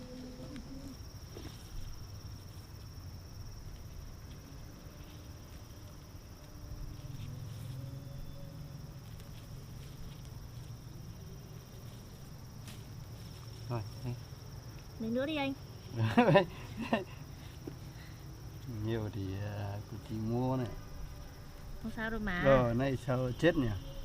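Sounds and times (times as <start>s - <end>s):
insects calling: 0.0s - 24.0s.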